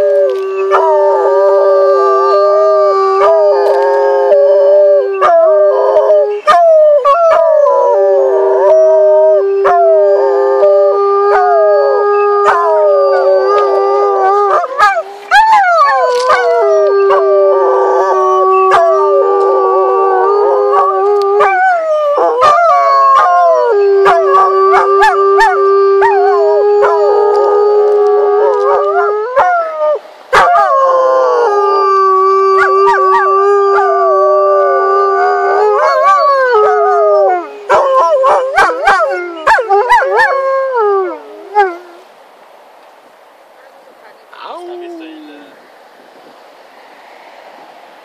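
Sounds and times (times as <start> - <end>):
dogs howling: 0.0 - 42.0.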